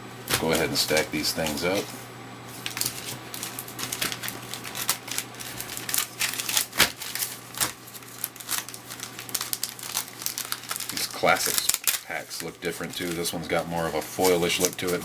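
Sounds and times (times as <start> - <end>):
foil wrappers crinkling: 0.3 - 15.0.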